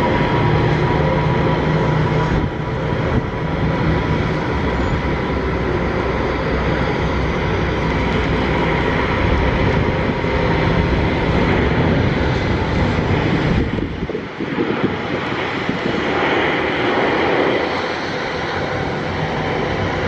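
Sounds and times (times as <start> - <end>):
jet engines at takeoff power: 0.0 - 20.0.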